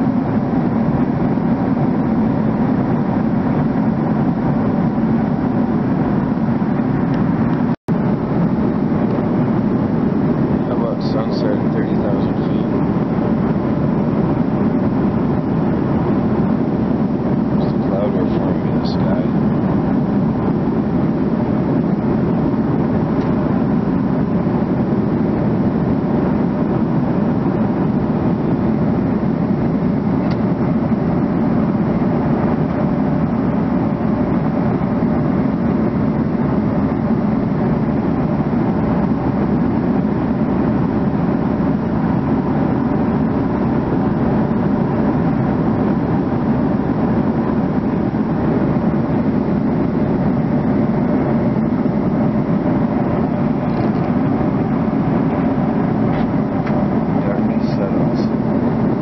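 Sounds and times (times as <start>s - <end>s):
faint steady hum: 0.0s - 59.0s
jet engine cabin rumble: 0.0s - 59.0s.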